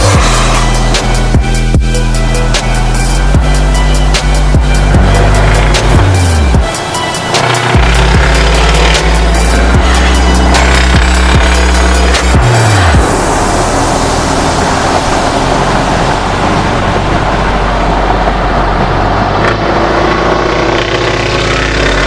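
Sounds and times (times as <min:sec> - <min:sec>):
road and tyre noise: 0:00.0 - 0:22.0
truck diesel engine running: 0:00.0 - 0:22.0.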